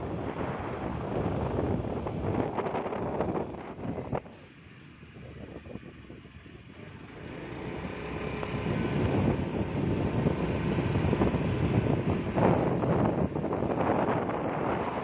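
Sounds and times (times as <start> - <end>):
motorcycle engine and road noise: 0.0 - 15.0
wind rushing over microphone: 0.0 - 15.0.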